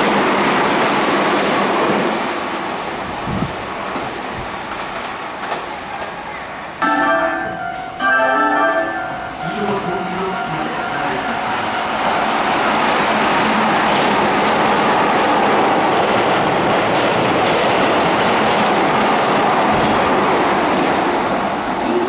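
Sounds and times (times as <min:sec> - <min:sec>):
train wheels rushing on rails: 0:00.0 - 0:06.8, 0:09.4 - 0:22.0.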